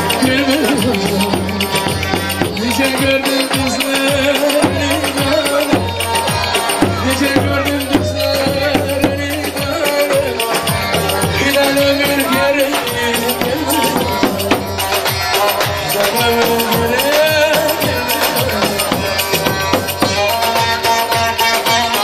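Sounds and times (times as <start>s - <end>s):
fast drum beat: 0.0s - 22.0s.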